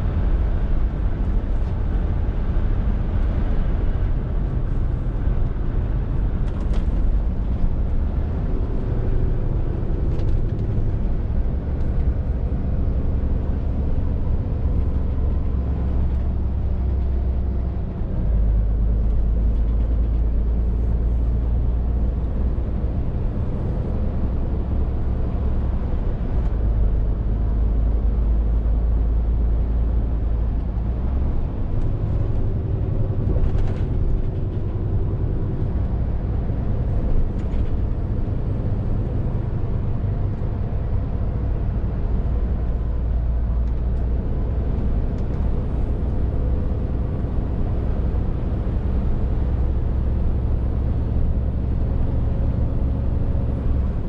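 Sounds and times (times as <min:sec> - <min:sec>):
lorry diesel engine drone: 0:00.0 - 0:54.0
road noise: 0:00.0 - 0:54.0.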